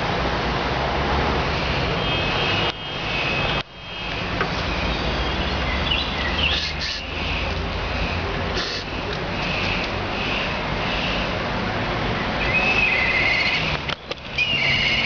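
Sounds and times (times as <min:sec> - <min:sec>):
outdoor background rush: 0:00.0 - 0:15.0.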